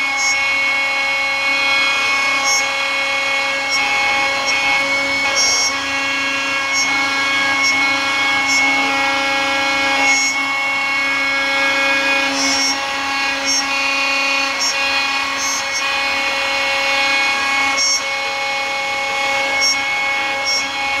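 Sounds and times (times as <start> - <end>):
router spindle whine: 0.0 - 21.0.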